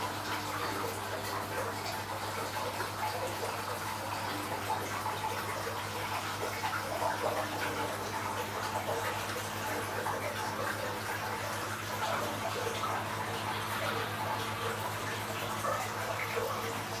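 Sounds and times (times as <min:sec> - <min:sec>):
pump humming: 0:00.0 - 0:17.0
water bubbling and trickling: 0:00.0 - 0:17.0.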